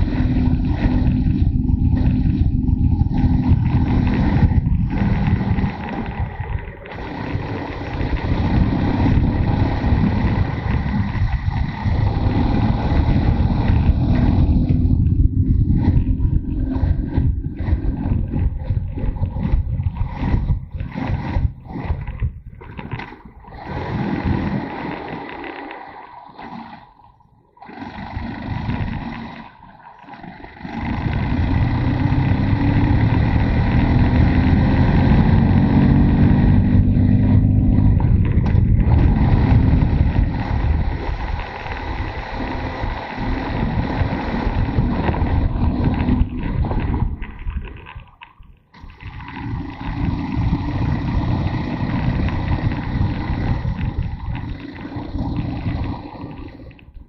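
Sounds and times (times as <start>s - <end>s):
wind rushing over microphone: 0.0s - 26.0s, 30.2s - 57.0s
motorcycle engine running: 0.0s - 27.0s, 27.6s - 57.0s.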